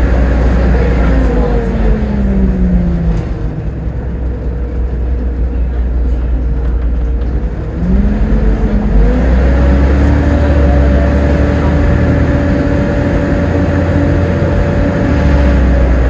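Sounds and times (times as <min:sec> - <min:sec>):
bus drivetrain whine: 0:00.0 - 0:16.0
bus engine rumble: 0:00.0 - 0:16.0.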